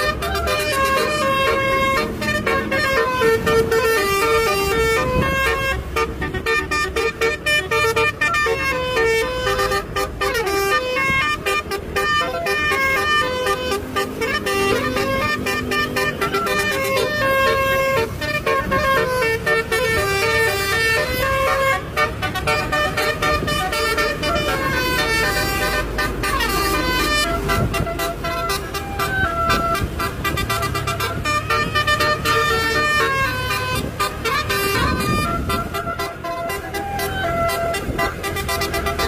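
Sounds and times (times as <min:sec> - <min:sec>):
low engine rumble: 0:00.0 - 0:39.0
musical air horn melody: 0:00.0 - 0:39.0.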